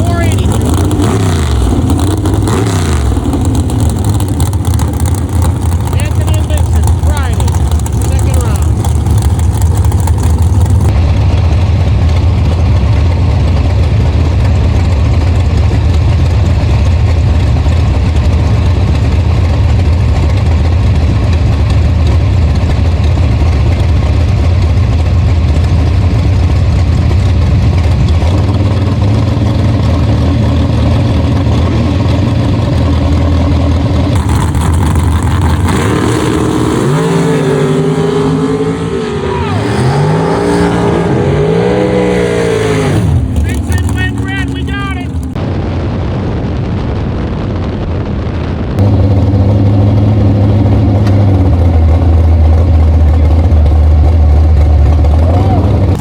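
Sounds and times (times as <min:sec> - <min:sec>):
race car engine rumbling and revving: 0:00.0 - 0:45.4, 0:48.8 - 0:56.0.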